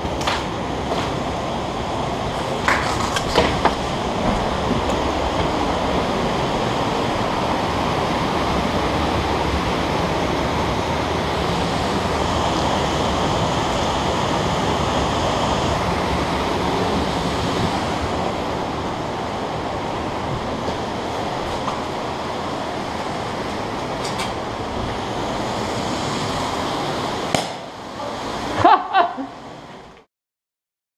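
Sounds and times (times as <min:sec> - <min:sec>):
wind on microphone: 0:00.0 - 0:28.7.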